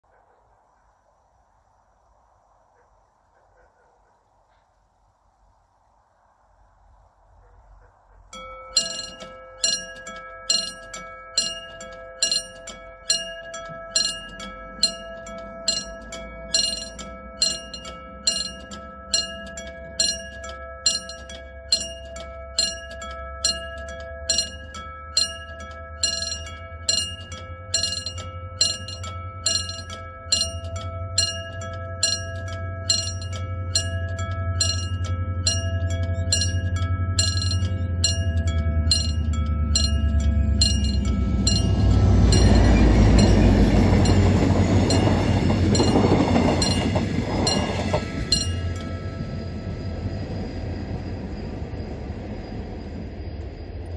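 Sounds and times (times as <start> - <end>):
diesel train rumble: 6.6 - 53.9
level-crossing warning bell ringing: 8.3 - 53.9.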